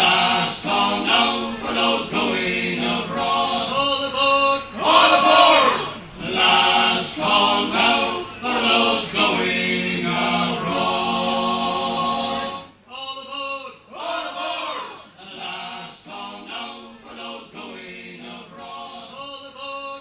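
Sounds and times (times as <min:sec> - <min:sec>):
male vocal group singing in harmony: 0:00.0 - 0:20.0.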